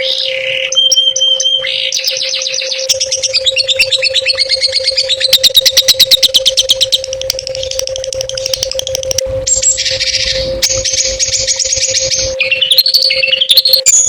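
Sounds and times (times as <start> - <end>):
songbird singing trills: 0.0 - 14.0
steady low hum: 0.0 - 14.0.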